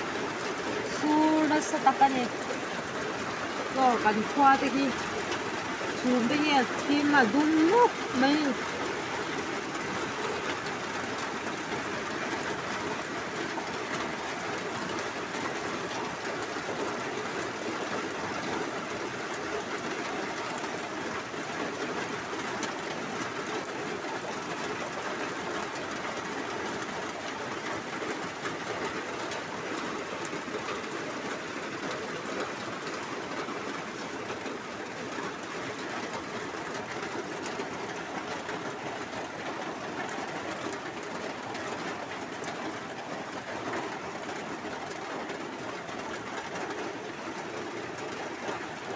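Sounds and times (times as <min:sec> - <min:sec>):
heavy pouring rain: 0:00.0 - 0:48.9.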